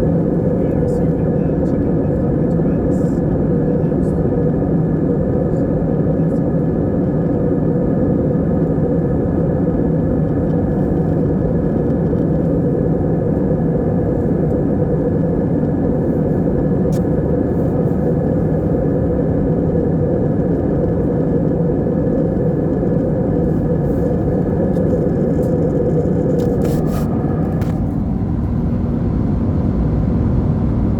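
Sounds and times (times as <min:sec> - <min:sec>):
airliner cabin engine rumble: 0:00.0 - 0:30.9.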